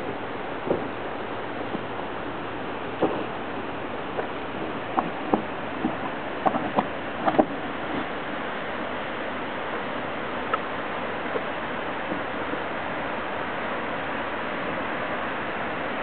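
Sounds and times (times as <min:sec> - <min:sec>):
rushing hiss of outdoor noise: 0:00.0 - 0:16.0.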